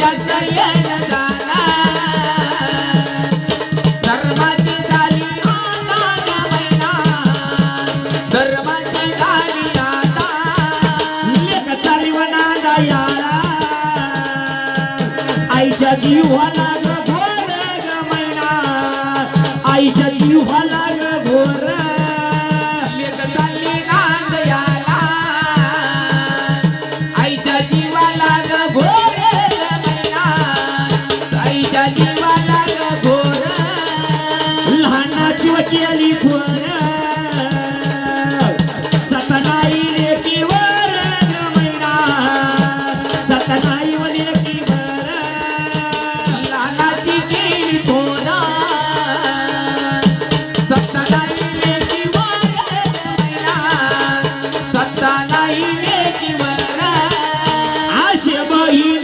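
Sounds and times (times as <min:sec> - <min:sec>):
drums: 0:00.0 - 0:59.0
rattling percussion: 0:00.0 - 0:59.0.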